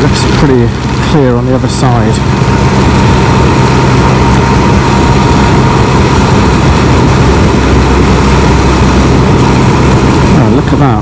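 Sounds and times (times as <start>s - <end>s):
engine running steadily: 0.0s - 11.0s
road noise rushing: 0.0s - 11.0s
thin steady whine: 0.0s - 11.0s.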